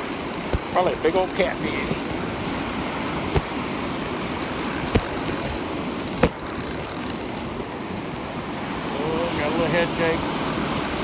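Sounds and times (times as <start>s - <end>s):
surf: 0.0s - 11.0s.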